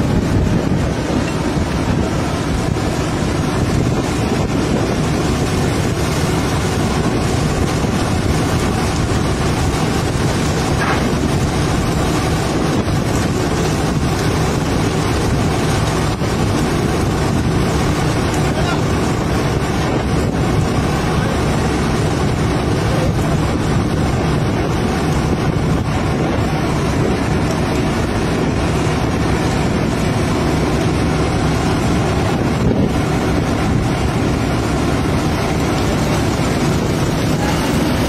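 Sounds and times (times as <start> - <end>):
boat engine and deck machinery rumble: 0.0 - 38.0
wind on microphone: 0.0 - 38.0.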